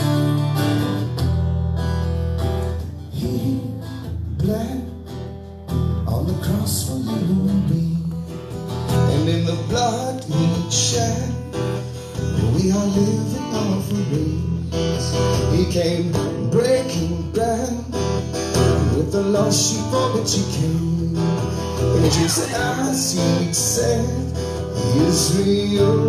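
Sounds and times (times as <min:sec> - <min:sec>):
acoustic guitar strumming: 0:00.0 - 0:26.0
man singing: 0:03.1 - 0:05.2, 0:06.0 - 0:26.0.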